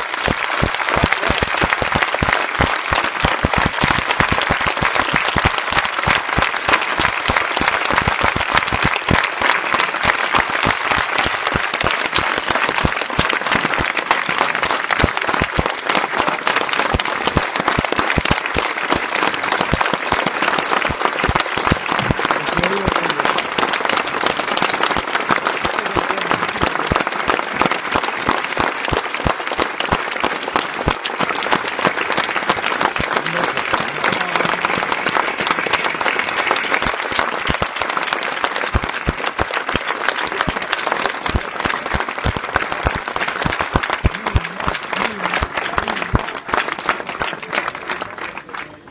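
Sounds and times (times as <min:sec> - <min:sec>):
crowd applauding: 0:00.0 - 0:48.9.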